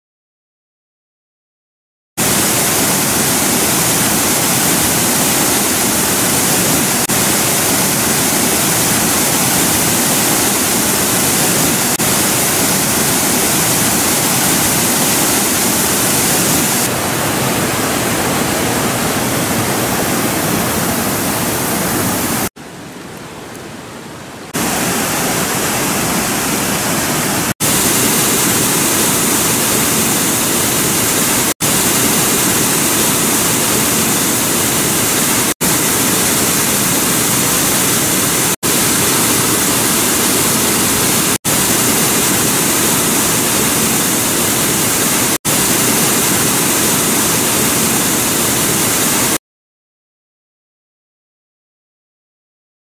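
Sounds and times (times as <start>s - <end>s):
water rushing over a weir: 2.2s - 49.4s.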